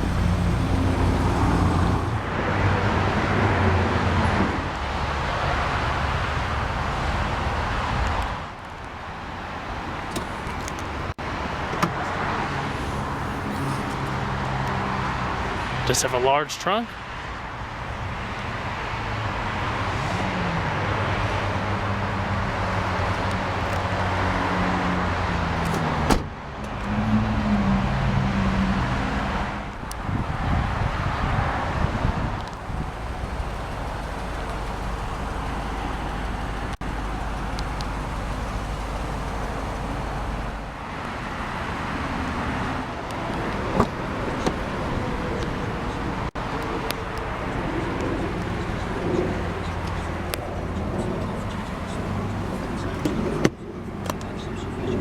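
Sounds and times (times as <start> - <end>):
vehicles going by: 0.0 - 55.0.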